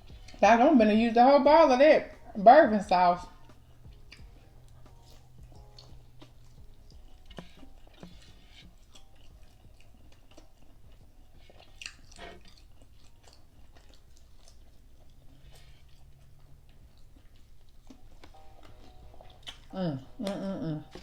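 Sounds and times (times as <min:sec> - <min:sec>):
person chewing food: 0:03.3 - 0:21.0.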